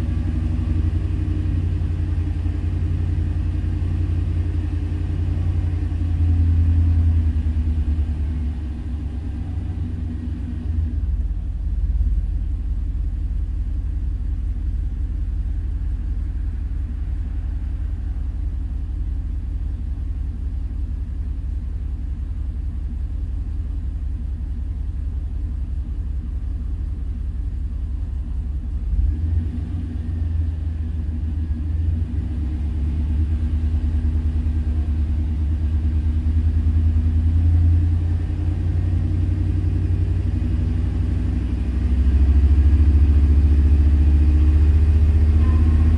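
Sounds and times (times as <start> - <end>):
engine misfiring rumble: 0.0 - 45.9.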